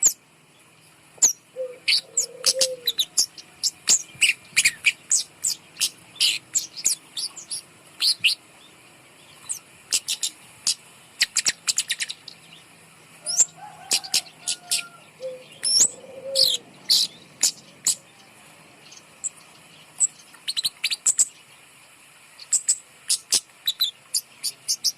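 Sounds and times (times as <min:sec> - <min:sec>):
bird chirping: 0:00.0 - 0:21.4.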